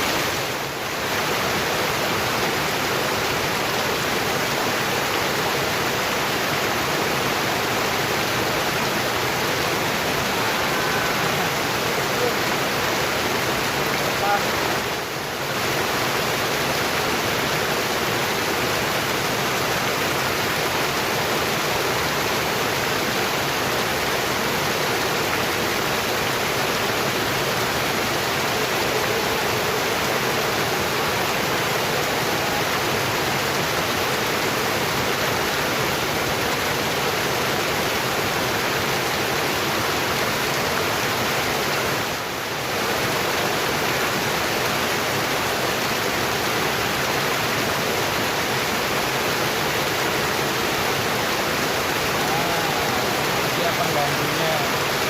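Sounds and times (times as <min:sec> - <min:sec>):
river water rushing over weir: 0:00.0 - 0:55.0.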